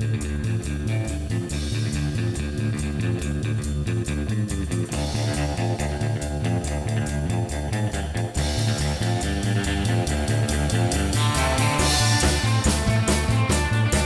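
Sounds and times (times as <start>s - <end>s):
rock music with guitars: 0.0s - 14.0s.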